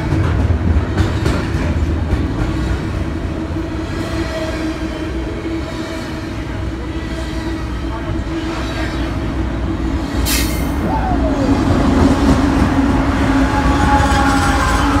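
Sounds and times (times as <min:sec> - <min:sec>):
diesel locomotive: 0:00.0 - 0:15.0
train wheels rumbling on rails: 0:00.0 - 0:15.0.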